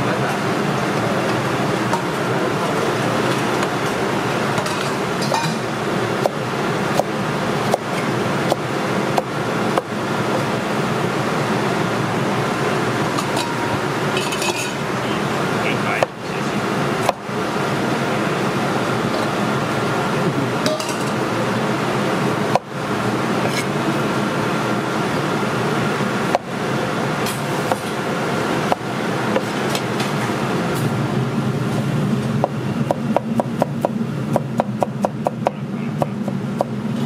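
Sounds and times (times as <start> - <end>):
loud background rumble: 0.0 - 37.0.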